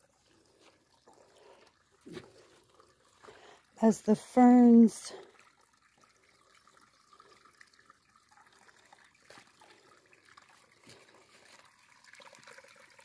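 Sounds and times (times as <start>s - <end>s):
light water drips: 0.0s - 13.0s
stream trickling: 0.0s - 13.0s.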